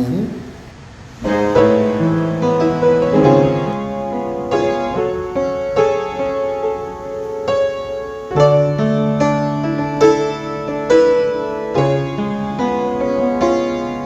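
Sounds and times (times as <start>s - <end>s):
piano playing slow chords: 1.2s - 14.0s.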